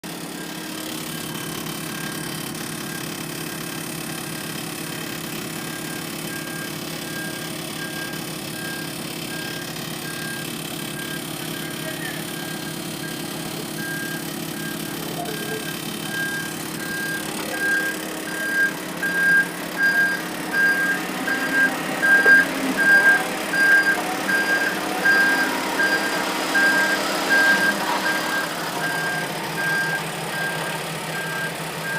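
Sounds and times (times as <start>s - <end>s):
truck engine running: 0.0s - 31.9s
reversing alarm beeping: 0.3s - 31.9s.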